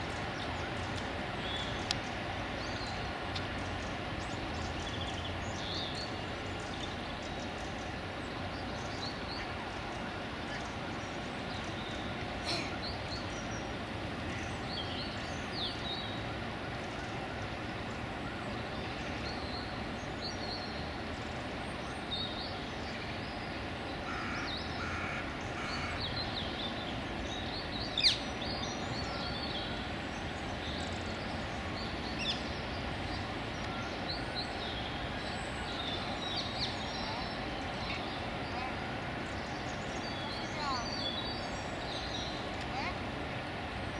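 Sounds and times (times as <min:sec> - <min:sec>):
small birds chirping: 0:00.0 - 0:43.2.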